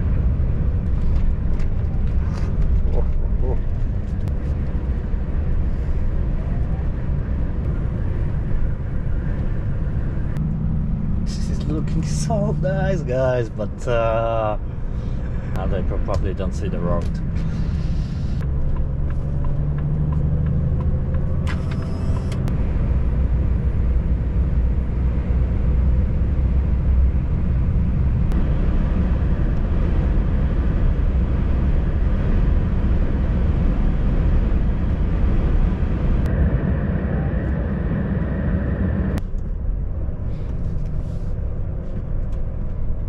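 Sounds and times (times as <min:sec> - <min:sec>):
diesel engine droning: 0:00.0 - 0:43.0
road and wind noise: 0:00.0 - 0:43.0.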